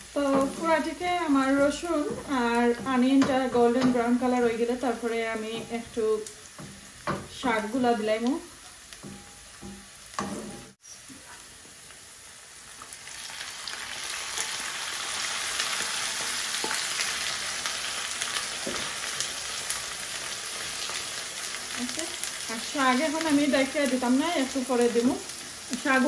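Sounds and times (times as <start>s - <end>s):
spinach sizzling in hot oil: 0.0s - 26.0s.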